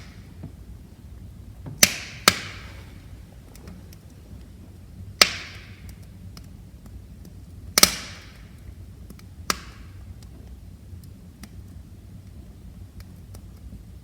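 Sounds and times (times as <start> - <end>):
fire low rumble: 0.0 - 14.0
wood fire crackling and popping: 0.0 - 14.0.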